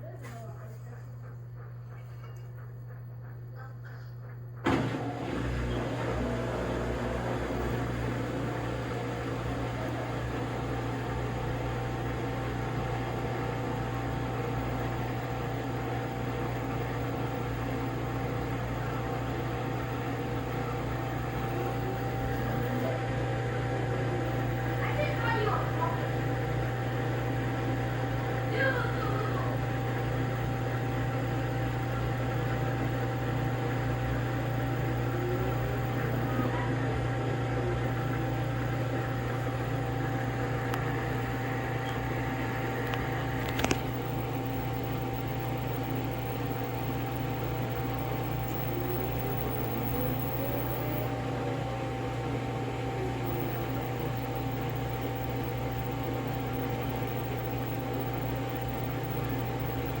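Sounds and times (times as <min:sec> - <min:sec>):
washing machine hum and whine: 0:00.0 - 1:00.0.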